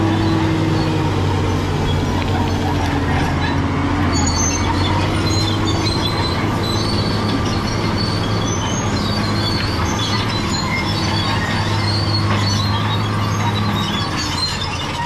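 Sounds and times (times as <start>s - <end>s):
bulldozer diesel engine: 0.0s - 15.0s
steel tracks squealing and clanking: 0.0s - 15.0s.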